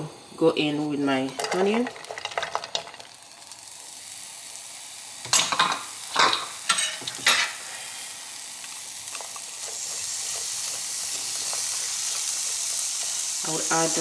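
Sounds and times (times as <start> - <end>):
onions sizzling in frying pan: 0.0 - 14.0.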